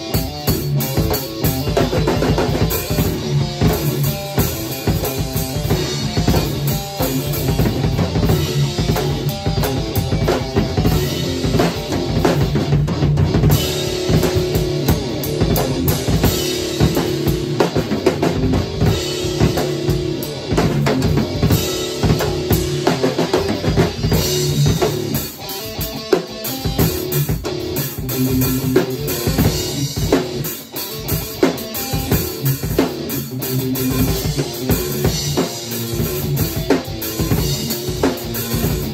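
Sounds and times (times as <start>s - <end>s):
drum kit playing: 0.0s - 38.9s
electric guitar notes: 0.0s - 38.9s.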